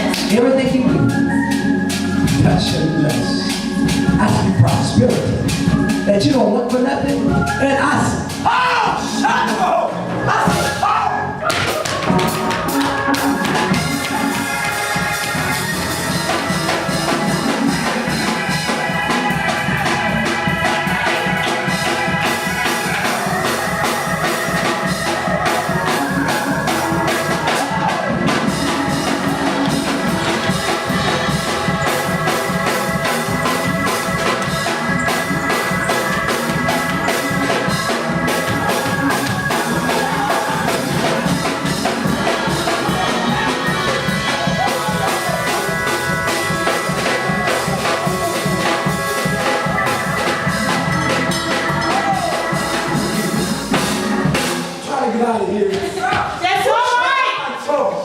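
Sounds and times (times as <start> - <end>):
organ: 0.0 - 55.8
drum kit beat: 0.0 - 57.2.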